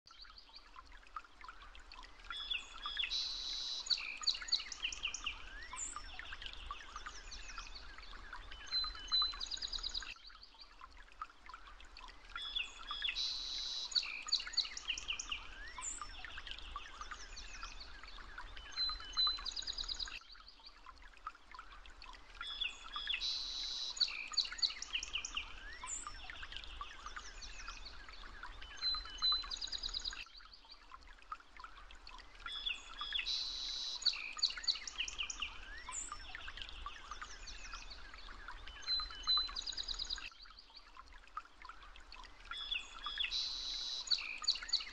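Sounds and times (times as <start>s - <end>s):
faint steady hiss: 0.4s - 44.9s.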